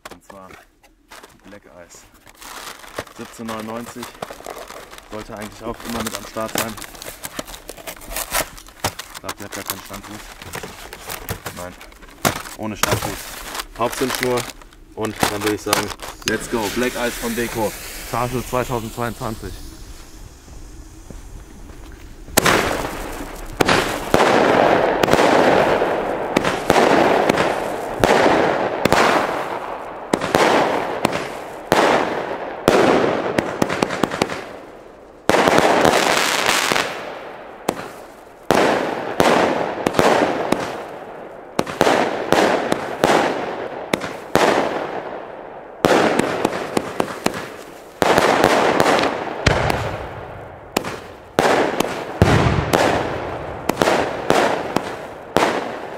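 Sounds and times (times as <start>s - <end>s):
firework bursts: 2.3s - 55.9s
firework shots launching: 2.7s - 55.9s.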